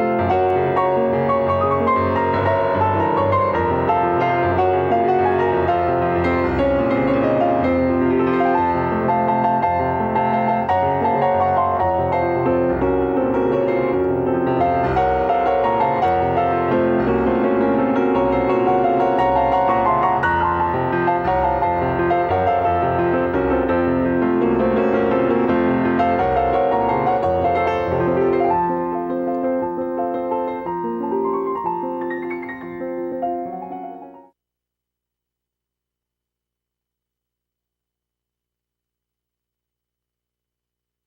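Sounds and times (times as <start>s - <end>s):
instrumental piano music: 0.0s - 34.4s.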